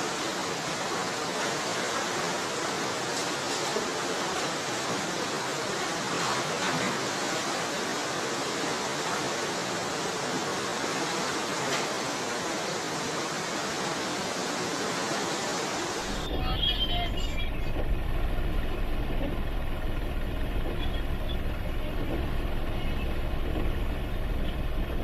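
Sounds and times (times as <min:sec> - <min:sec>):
rushing floodwater: 0:00.0 - 0:25.0
vehicle driving through water: 0:00.0 - 0:25.0.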